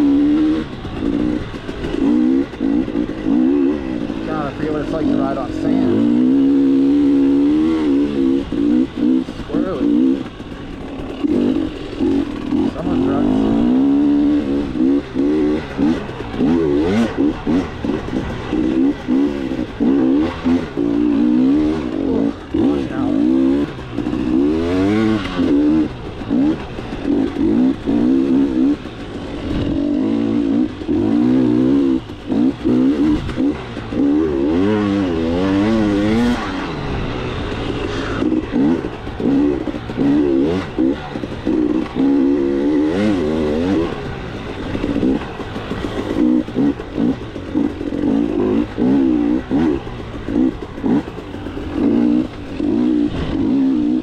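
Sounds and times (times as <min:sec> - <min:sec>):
two-stroke dirt bike engine revving: 0:00.0 - 0:54.0.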